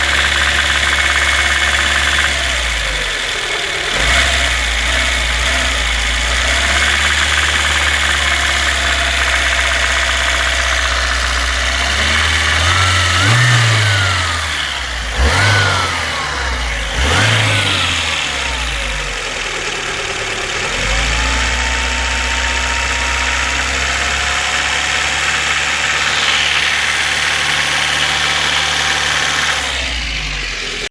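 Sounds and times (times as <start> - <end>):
petrol engine revving and knocking: 0.0 - 30.9.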